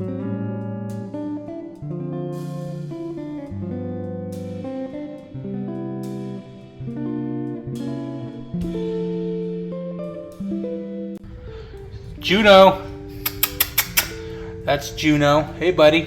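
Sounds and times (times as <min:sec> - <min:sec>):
guitar playing chords: 0:00.0 - 0:16.0.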